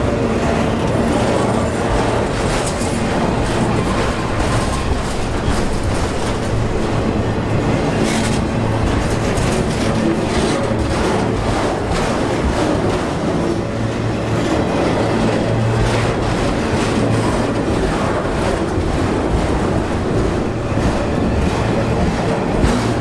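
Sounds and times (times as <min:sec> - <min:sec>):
freight train wheels rumbling on rails: 0:00.0 - 0:23.0
wheels clicking over rail joints: 0:00.0 - 0:23.0.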